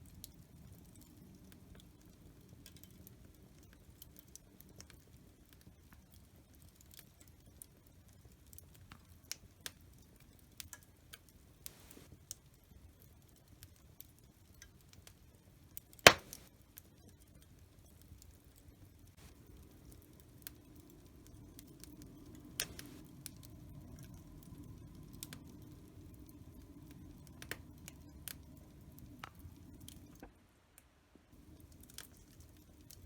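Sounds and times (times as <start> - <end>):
fire crackling in fireplace: 0.0 - 33.0
fire popping: 0.2 - 15.2, 15.8 - 17.4, 18.0 - 30.3, 31.4 - 33.0.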